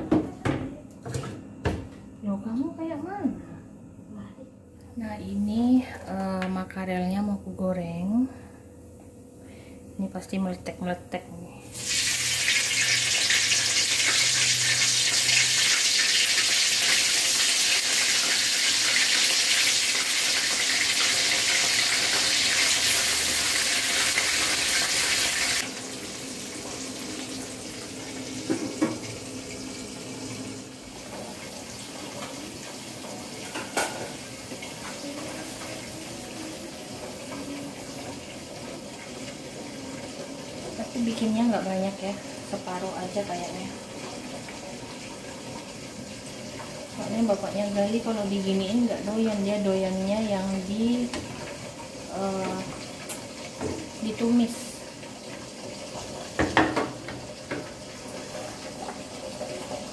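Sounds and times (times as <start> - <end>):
fish sizzling in hot oil: 11.7 - 59.9.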